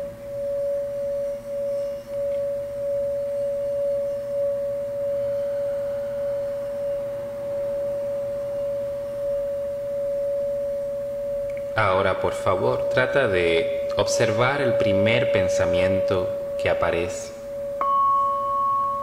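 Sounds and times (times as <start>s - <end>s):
singing bowl ringing: 0.0s - 19.0s.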